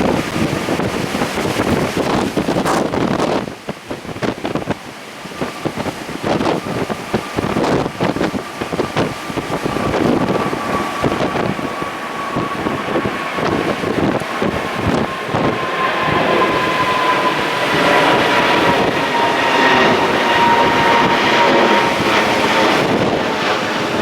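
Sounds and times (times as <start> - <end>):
jet engines whining: 0.0 - 24.0
strong wind gusting on microphone: 0.0 - 24.0.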